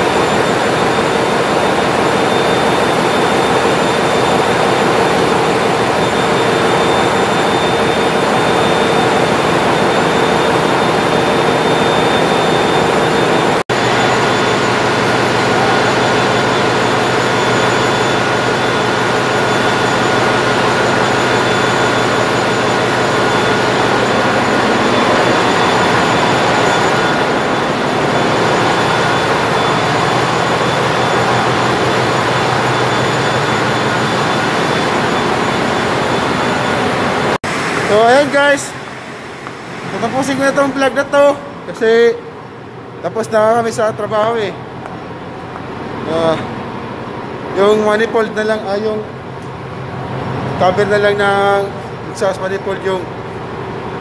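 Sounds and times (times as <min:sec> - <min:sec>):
engine room machinery roar: 0:00.0 - 0:54.0.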